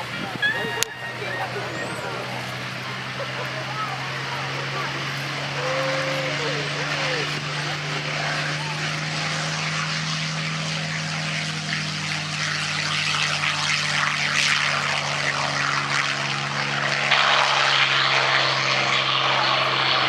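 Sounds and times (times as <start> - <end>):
propeller plane engines droning: 0.0 - 20.0.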